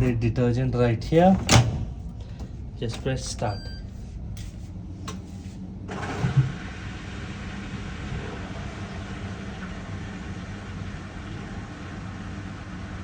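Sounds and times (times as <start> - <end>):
low hum: 0.0 - 11.5
washing machine rushing hiss: 1.1 - 13.0.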